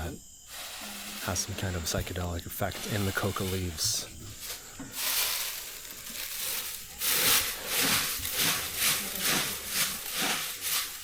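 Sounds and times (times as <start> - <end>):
rhythmic scraping of crushed leaves: 0.0 - 11.0.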